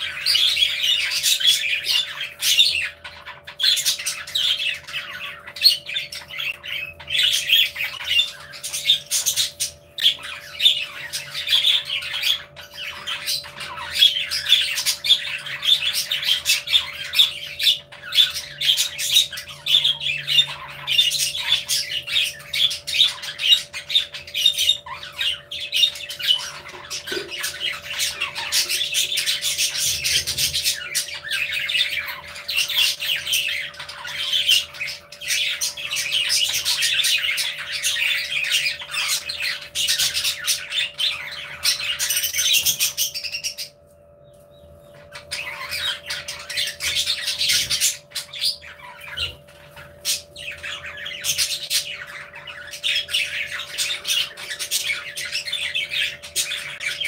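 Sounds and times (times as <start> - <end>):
budgerigars chattering: 0.0 - 43.8, 44.5 - 57.0.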